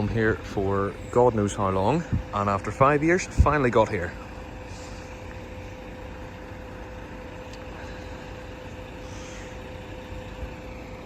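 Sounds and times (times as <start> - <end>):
faint constant hum: 0.0 - 11.0
vehicle rumble: 0.0 - 11.0.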